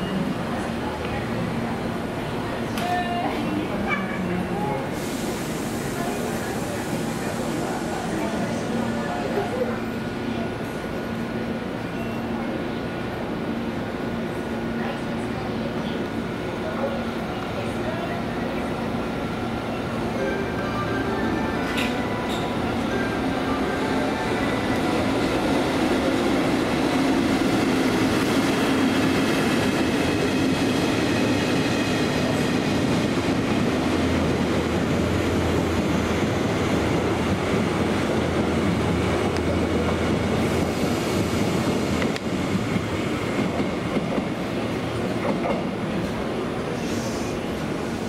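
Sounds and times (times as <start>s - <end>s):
train running by: 0.0s - 48.0s.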